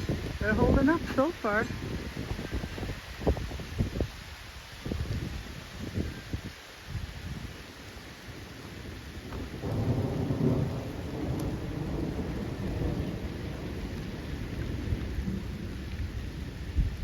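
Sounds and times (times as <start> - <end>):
rolling thunder rumble: 0.0 - 4.2, 7.0 - 17.0
heavy rain: 0.0 - 17.0.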